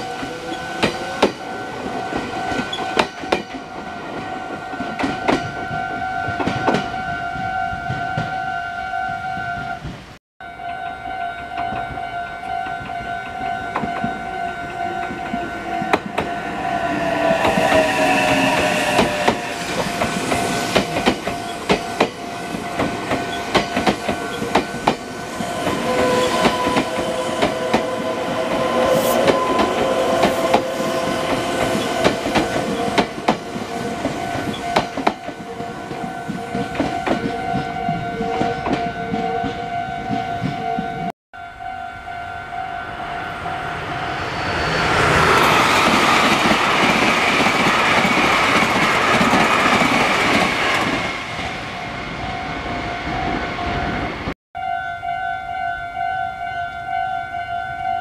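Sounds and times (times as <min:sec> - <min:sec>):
express train rushing past: 0:00.0 - 0:54.4
steady train tones: 0:00.0 - 0:55.1.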